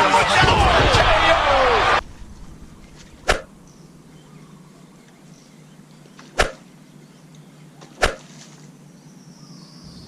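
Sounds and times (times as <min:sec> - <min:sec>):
faint steady background noise: 0:00.0 - 0:10.0.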